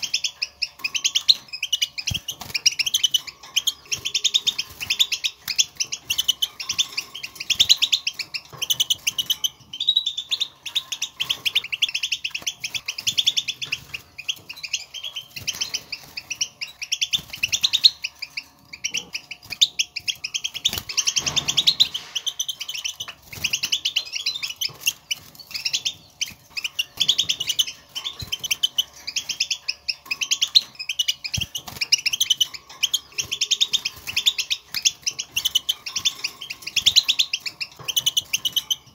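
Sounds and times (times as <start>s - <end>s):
goldfinches chirping: 0.0s - 38.9s.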